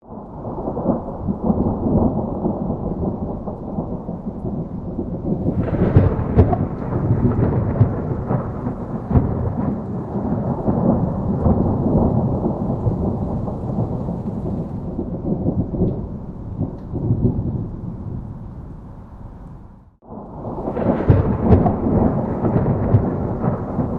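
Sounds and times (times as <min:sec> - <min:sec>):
distant thunder rumbling: 0:00.0 - 0:23.9.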